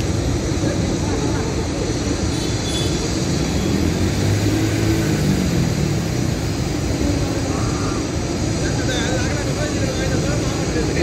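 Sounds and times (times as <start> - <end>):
low rumbling outdoor noise: 0.0 - 11.0.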